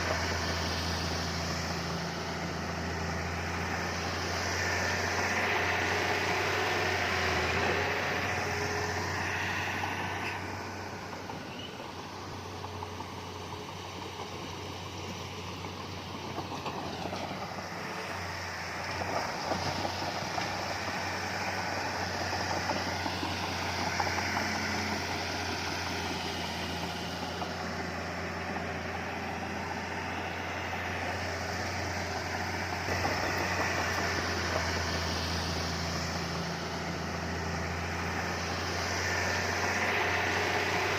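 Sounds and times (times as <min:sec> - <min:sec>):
heavy machinery diesel engine: 0:00.0 - 0:40.9.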